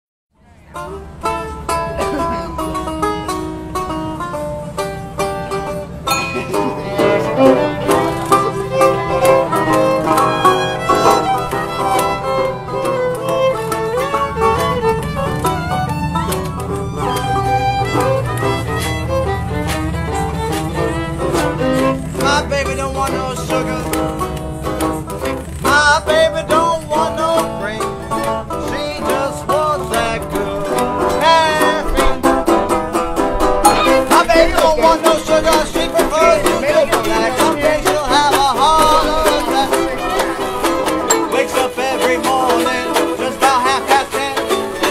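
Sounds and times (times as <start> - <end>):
bluegrass string band playing: 0.4 - 44.9
bowed fiddle: 0.4 - 44.9
plucked strings: 0.4 - 44.9
strummed guitar: 0.4 - 44.9.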